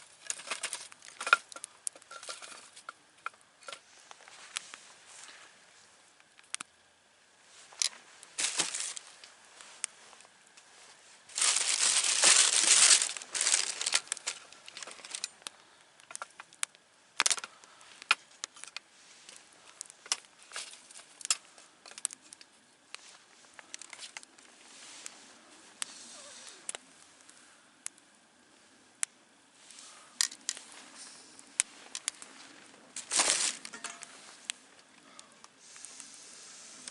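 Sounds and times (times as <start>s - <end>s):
crinkling rustle: 0.0s - 6.8s, 7.4s - 27.6s, 29.3s - 36.9s
campfire crackling and popping: 0.0s - 36.9s.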